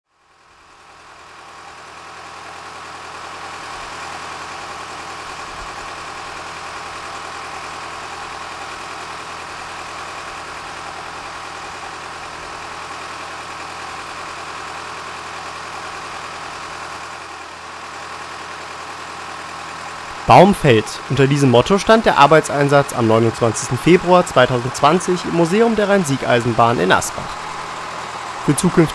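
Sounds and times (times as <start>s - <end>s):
diesel locomotive engine idling: 0.1s - 28.9s.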